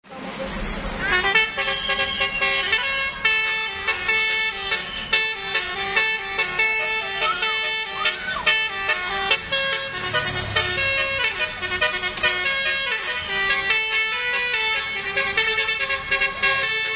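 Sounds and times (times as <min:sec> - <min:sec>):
bus air horns playing a tune: 0:01.0 - 0:16.9.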